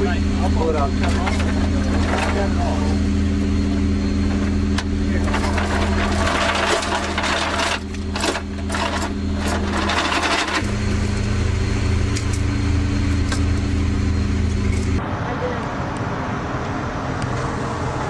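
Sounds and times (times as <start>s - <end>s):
low machinery hum: 0.0s - 18.0s.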